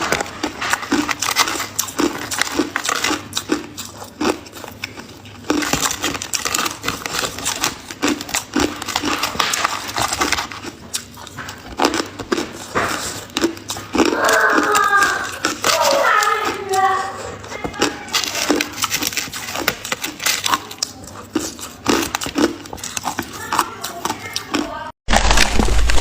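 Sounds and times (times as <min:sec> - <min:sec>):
ice being chewed: 0:00.0 - 0:26.0.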